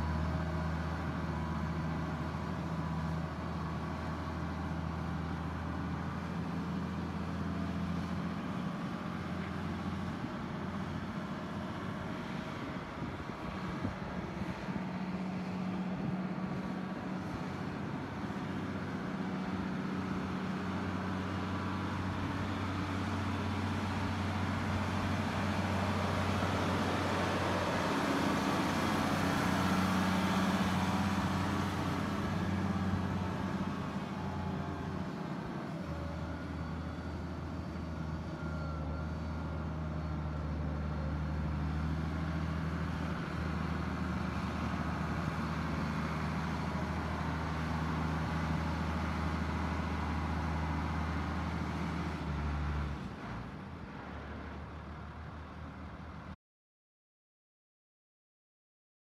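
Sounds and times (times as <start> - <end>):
tractor diesel engine drone: 0.0 - 56.4.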